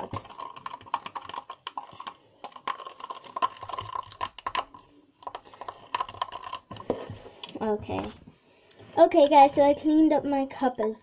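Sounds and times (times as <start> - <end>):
spoon stirring thick slime: 0.0 - 9.9.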